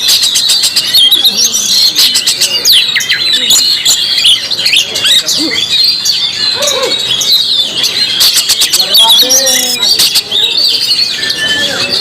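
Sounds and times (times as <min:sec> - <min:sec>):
bird singing whistled notes: 0:00.0 - 0:12.0.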